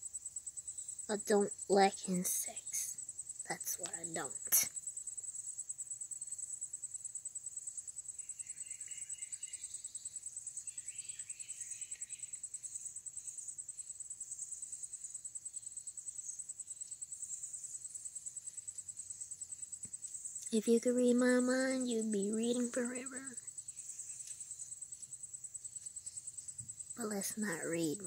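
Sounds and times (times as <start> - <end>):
faint low chirping: 0.0 - 28.0
insects trilling: 0.0 - 28.0.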